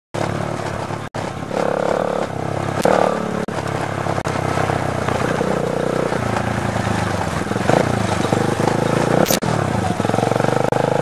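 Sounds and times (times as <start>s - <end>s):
dirt bike engine revving: 0.2s - 11.0s.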